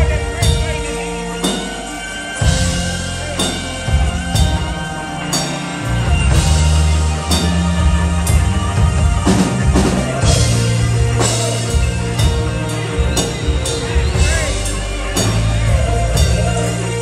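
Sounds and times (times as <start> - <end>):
bass guitar: 0.0 - 17.0
drum kit beat: 0.0 - 17.0
electric guitar lead: 0.0 - 17.0.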